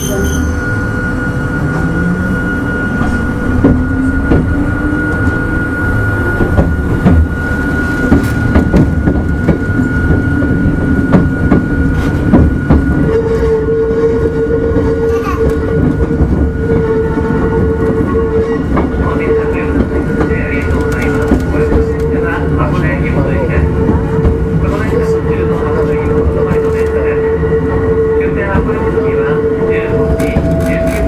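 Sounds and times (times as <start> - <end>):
train rumble and motor whine: 0.0 - 31.0.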